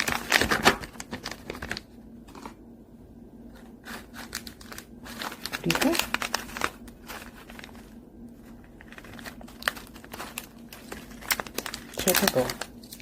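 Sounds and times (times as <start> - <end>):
plastic packaging crinkling: 0.0 - 2.6, 3.6 - 13.0.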